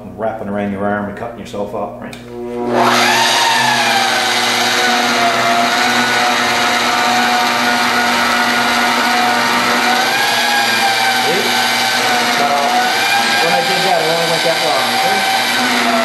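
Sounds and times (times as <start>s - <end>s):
drill press motor whining: 2.3s - 16.0s.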